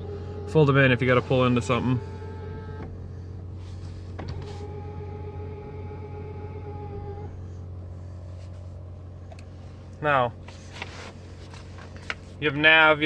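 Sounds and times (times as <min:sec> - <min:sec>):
mirror motor whine: 0:00.0 - 0:12.4
steady low hum: 0:00.0 - 0:13.0.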